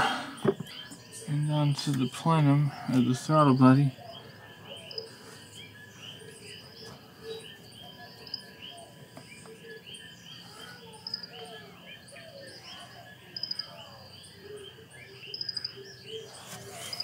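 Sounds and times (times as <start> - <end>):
birds chirping and calling: 0.0 - 17.0
insects trilling: 0.0 - 17.0.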